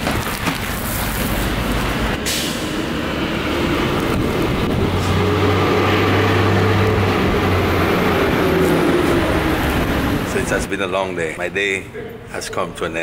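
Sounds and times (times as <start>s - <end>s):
vehicle engine humming: 0.0s - 10.6s.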